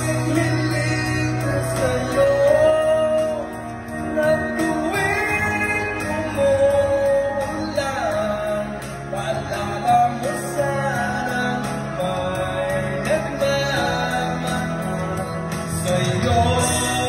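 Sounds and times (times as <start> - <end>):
karaoke backing track: 0.0 - 17.0
man singing into microphone: 0.0 - 17.0.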